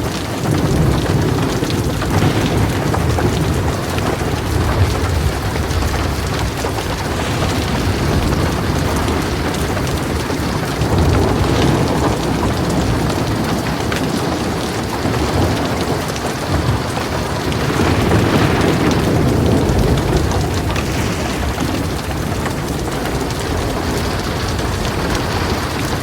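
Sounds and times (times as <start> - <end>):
heavy rain pouring: 0.0 - 26.0
low rolling thunder: 0.0 - 26.0.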